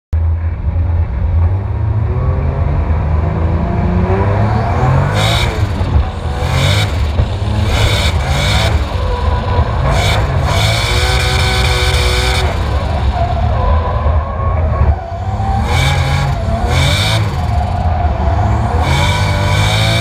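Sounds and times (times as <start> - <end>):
car engine revving: 0.2 - 20.0.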